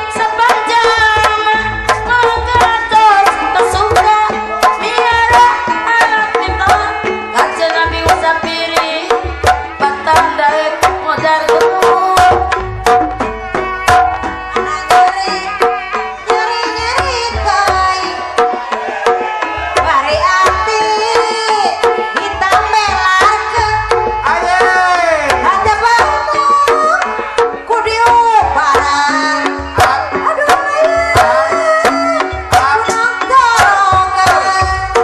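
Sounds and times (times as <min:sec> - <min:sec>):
hand drums playing: 0:00.0 - 0:35.0.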